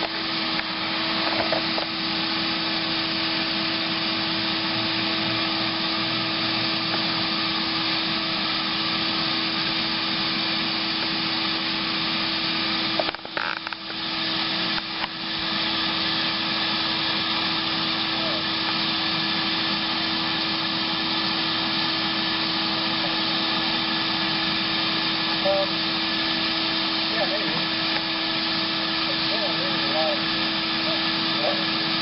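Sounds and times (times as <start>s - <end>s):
vacuum cleaner humming: 0.0s - 32.0s.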